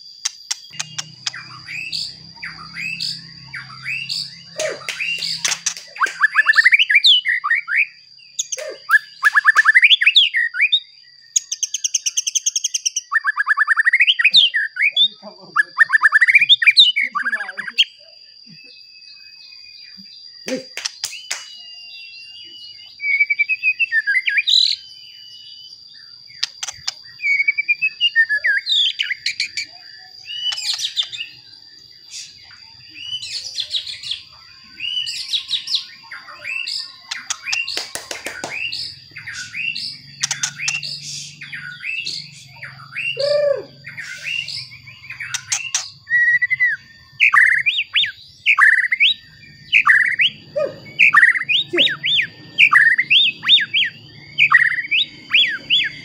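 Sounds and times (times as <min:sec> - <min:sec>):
bird singing whistles: 0:00.2 - 0:15.0, 0:15.6 - 0:56.0.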